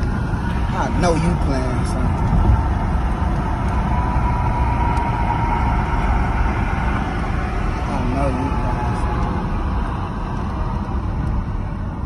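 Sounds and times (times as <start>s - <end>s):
engine and road rumble: 0.0s - 12.0s
faint steady whine: 0.0s - 12.0s.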